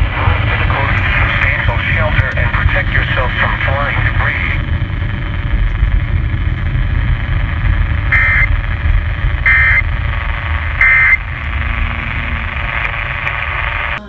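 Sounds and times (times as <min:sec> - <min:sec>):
electronic data bursts: 0:00.0 - 0:14.0
steady low rumble: 0:00.0 - 0:14.0.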